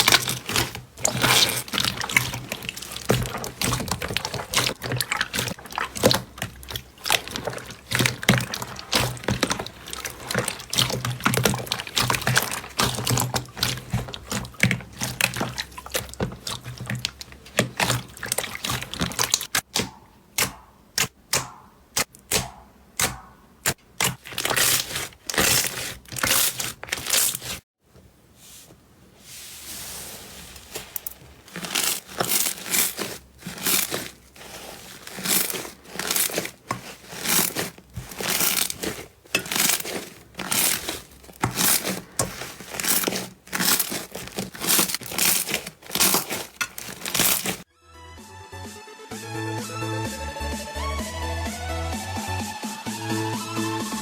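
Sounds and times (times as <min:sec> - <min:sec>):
slime crackling and popping: 0:00.0 - 0:27.6, 0:30.8 - 0:47.7.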